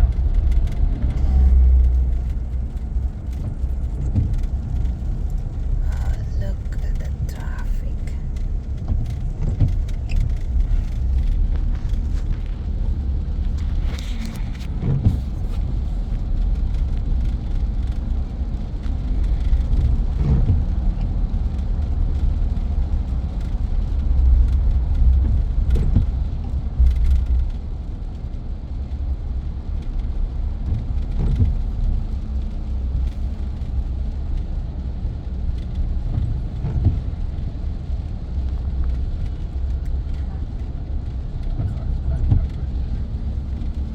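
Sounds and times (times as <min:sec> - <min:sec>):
truck engine and road rumble: 0:00.0 - 0:43.9.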